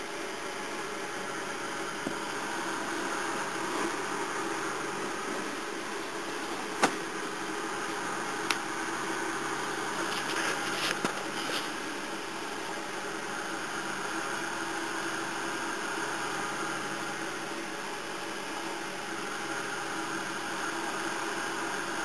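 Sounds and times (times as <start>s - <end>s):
room hum and hiss: 0.0s - 22.0s.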